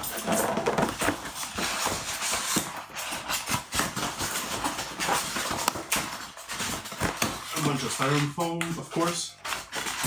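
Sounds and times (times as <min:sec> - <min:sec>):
packaging rustling: 0:00.0 - 0:10.0
small knocks and scrapes: 0:00.0 - 0:10.0.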